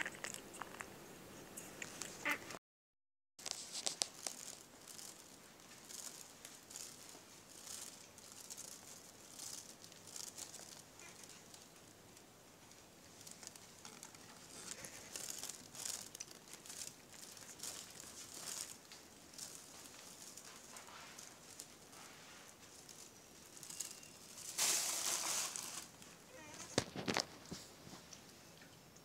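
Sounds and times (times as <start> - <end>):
soft rustling and crinkling: 3.4 - 28.8.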